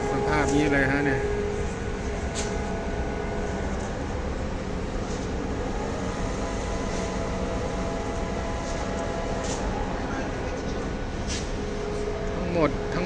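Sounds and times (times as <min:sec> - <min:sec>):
faint steady tones: 0:00.0 - 0:13.0
heavy machinery rumbling: 0:00.0 - 0:13.0.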